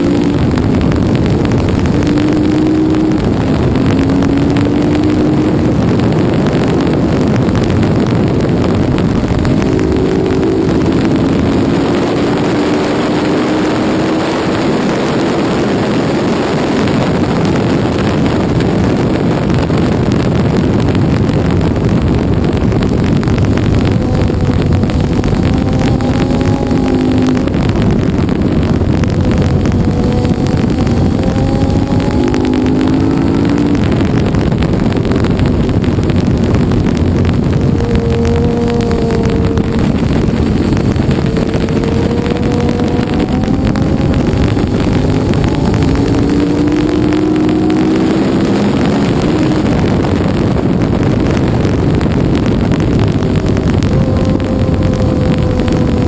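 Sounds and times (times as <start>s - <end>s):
motorcycle engine accelerating: 0.0s - 56.0s
wind rush: 0.0s - 56.0s.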